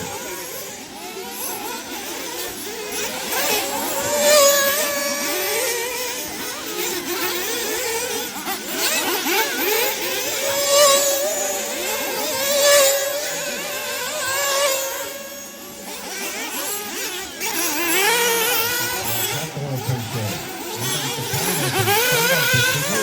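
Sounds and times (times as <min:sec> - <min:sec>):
rc buggy engines revving: 0:00.0 - 0:23.0.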